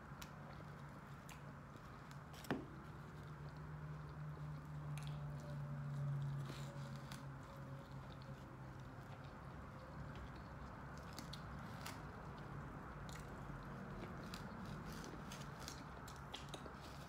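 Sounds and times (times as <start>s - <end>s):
soft chewing and biting: 0.0s - 17.0s.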